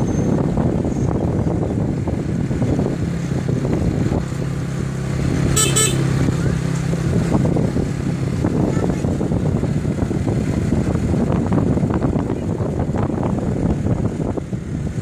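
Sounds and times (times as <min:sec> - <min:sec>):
motorcycle engine running: 0:00.0 - 0:15.0
wind on microphone: 0:00.0 - 0:15.0.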